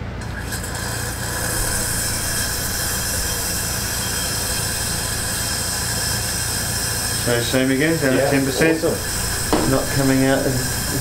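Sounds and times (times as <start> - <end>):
compressed air hissing: 0.6 - 11.0.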